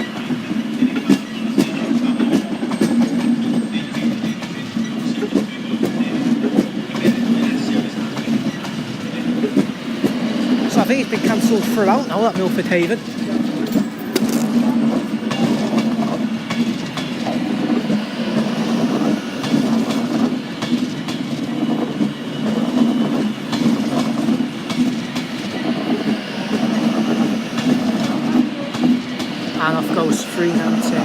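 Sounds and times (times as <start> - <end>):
train low drone: 0.0 - 31.0.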